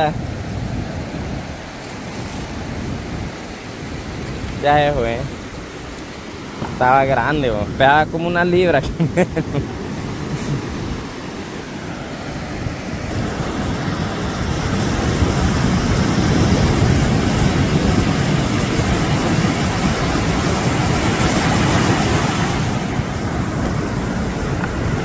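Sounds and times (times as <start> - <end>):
surf rushing: 0.0 - 25.0
wind: 0.0 - 25.0.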